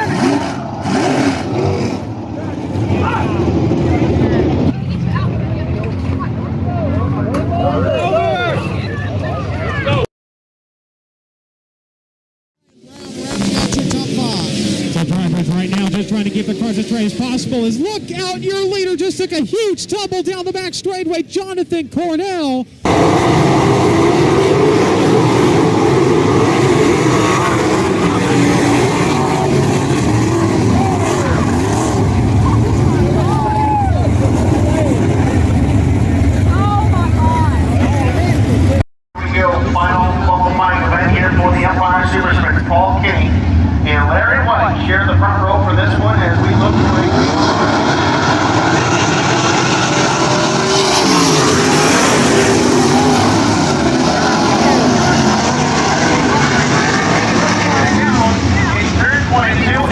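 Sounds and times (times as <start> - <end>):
race car engines roaring: 0.0 - 10.0, 12.7 - 20.7, 22.7 - 59.9.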